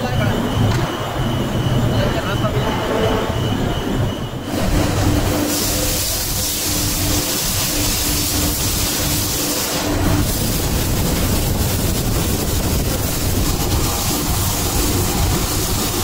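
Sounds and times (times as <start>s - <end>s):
machinery running: 0.0s - 16.0s
steady hum: 0.0s - 16.0s.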